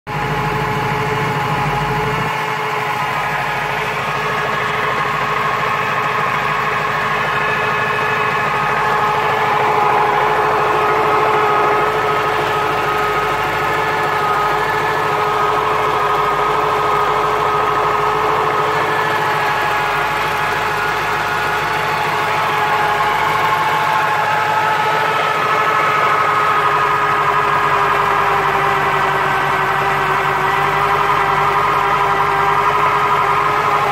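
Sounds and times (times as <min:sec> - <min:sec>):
car engine running: 0:00.1 - 0:33.9
gearbox whine: 0:00.1 - 0:33.9.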